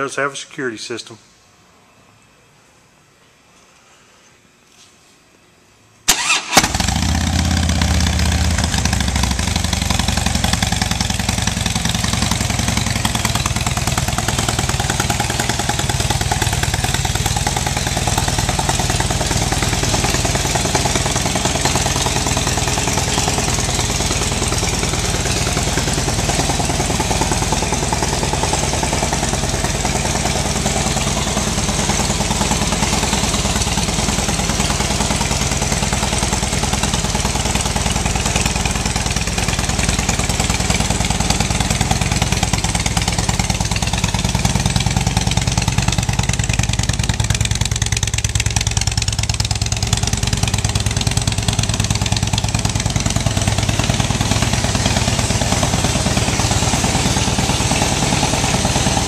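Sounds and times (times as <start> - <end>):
motorcycle engine starting and idling: 6.1 - 59.0.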